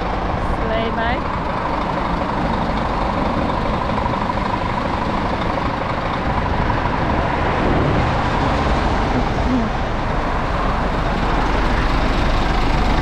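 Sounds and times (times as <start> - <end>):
wind buffeting microphone: 0.0 - 10.8
diesel engine idling: 0.0 - 13.0.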